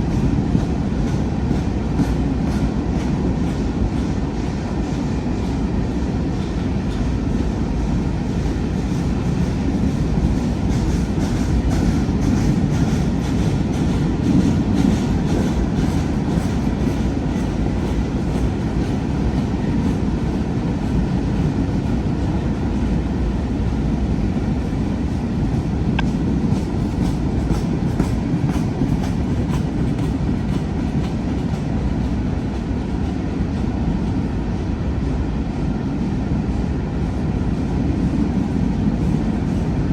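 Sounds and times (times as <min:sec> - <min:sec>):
rumble of train wheels on rails: 0:00.0 - 0:39.9.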